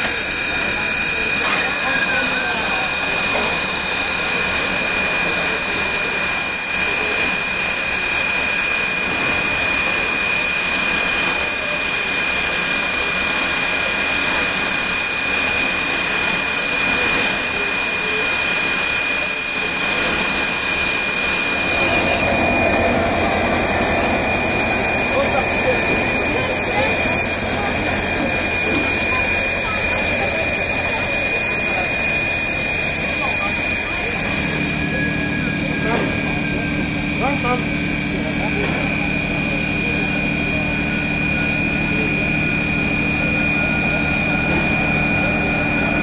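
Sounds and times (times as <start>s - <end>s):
diesel locomotive idling: 0.0s - 46.0s
steam locomotive hissing: 0.0s - 46.0s.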